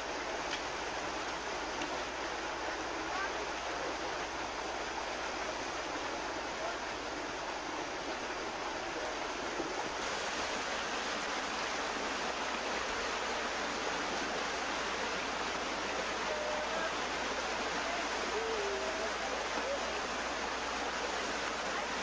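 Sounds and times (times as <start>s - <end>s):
waterfall pouring over rocks: 0.0s - 22.0s.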